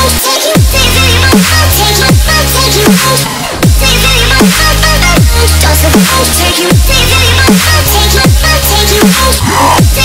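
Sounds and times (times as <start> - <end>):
dubstep music: 0.0 - 10.0.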